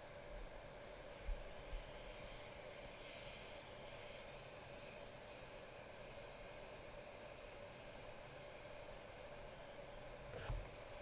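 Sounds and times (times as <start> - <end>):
steady hum: 0.0 - 11.0
paint spray gun hissing: 0.9 - 11.0.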